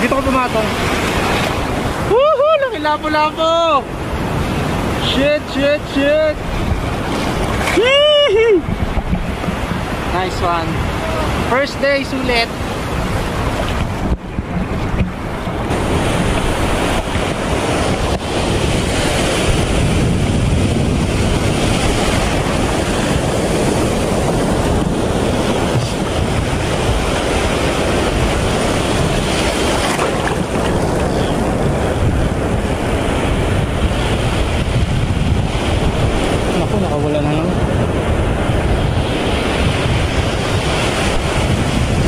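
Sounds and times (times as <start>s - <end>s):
surf washing over reef: 0.0s - 42.0s
wind buffeting microphone: 0.0s - 42.0s.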